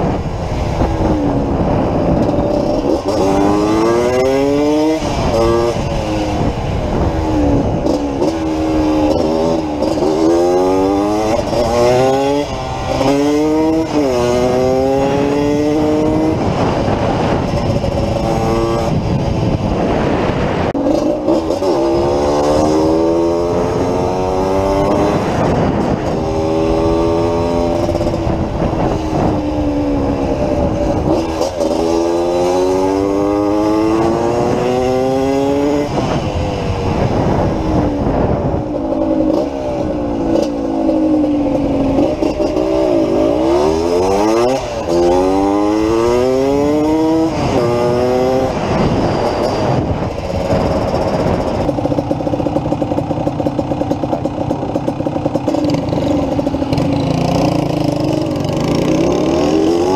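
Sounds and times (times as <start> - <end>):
two-stroke motorcycle accelerating: 0.0 - 59.9.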